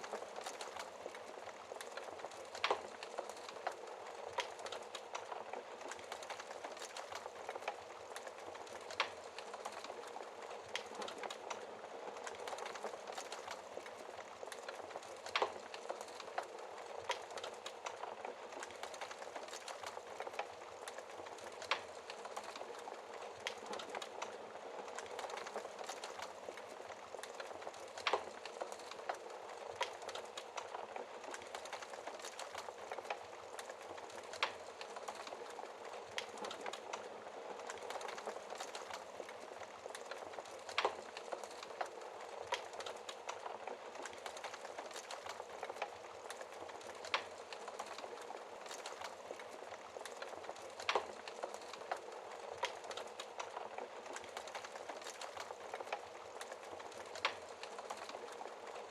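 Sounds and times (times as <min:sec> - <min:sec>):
fire crackling and popping: 0:00.0 - 0:58.9
wood fire hissing: 0:00.0 - 0:58.9.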